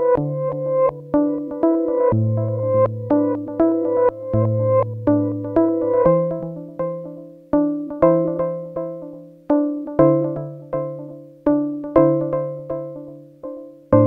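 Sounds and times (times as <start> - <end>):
electronic keyboard chords: 0.0 - 14.0.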